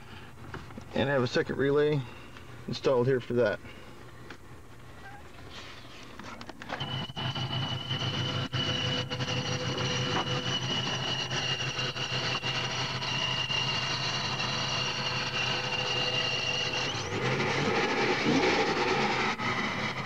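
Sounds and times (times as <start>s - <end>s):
high supercharger whine: 0.0s - 20.0s
pickup engine idling: 3.6s - 20.0s.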